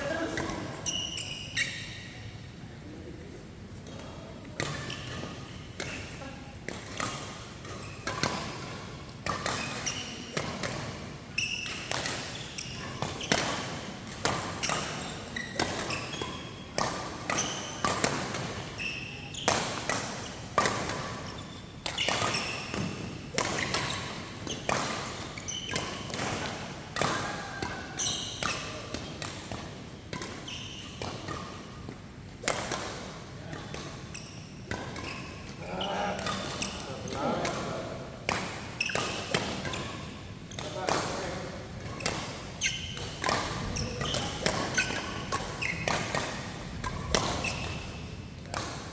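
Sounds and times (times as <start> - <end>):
rackets hitting shuttlecock: 4.0 - 48.9.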